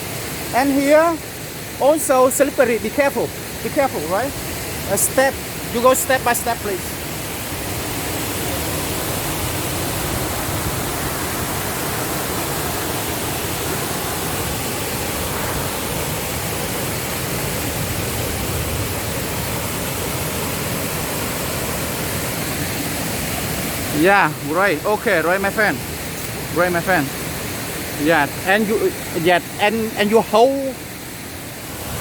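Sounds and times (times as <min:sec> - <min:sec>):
waterfall and stream rushing: 0:00.0 - 0:32.0.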